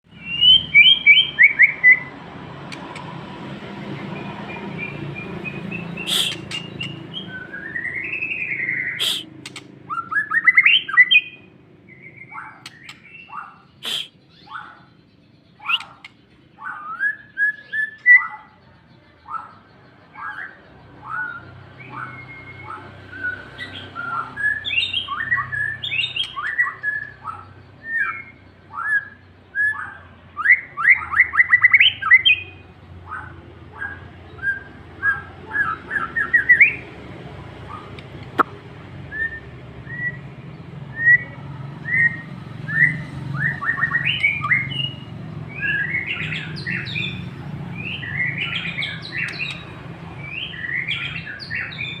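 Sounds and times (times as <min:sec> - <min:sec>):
songbird whistling and chattering: 0:00.1 - 0:03.1, 0:04.0 - 0:18.6, 0:19.2 - 0:52.0.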